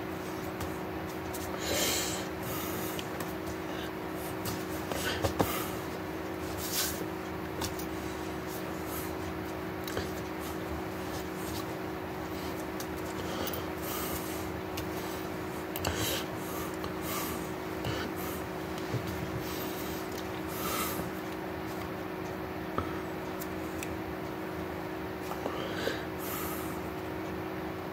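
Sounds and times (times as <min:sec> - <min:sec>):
low hum and hiss: 0:00.0 - 0:27.9.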